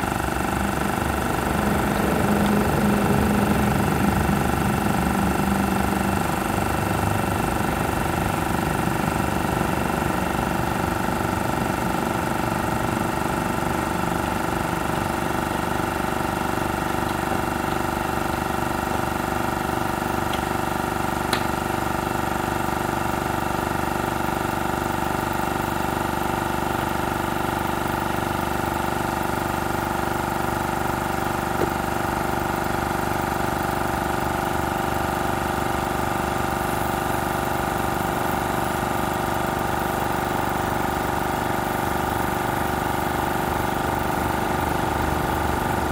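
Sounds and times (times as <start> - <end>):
air compressor humming: 0.0 - 45.9.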